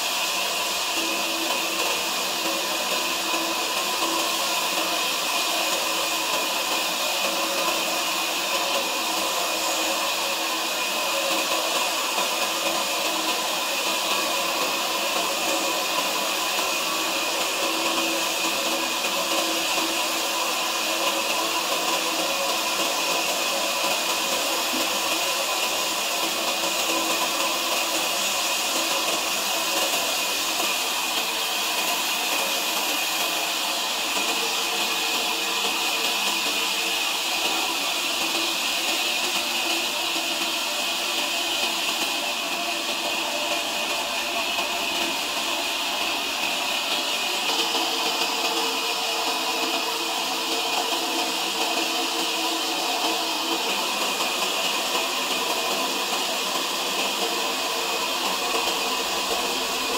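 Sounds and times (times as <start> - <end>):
sawmill machinery whirring: 0.0 - 59.9.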